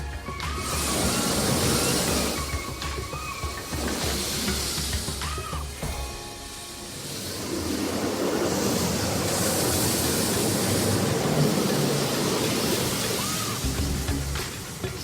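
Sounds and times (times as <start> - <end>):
high-pressure water jets spraying: 0.0 - 15.0.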